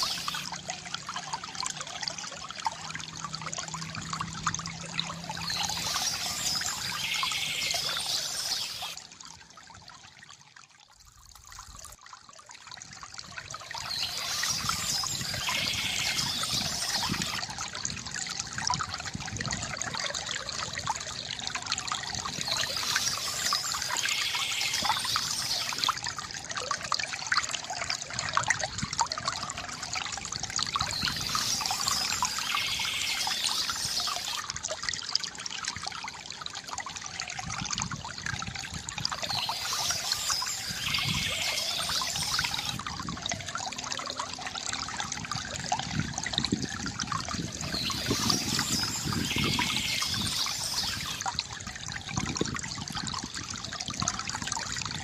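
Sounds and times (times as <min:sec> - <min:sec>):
fountain water trickling: 0:00.0 - 0:55.0.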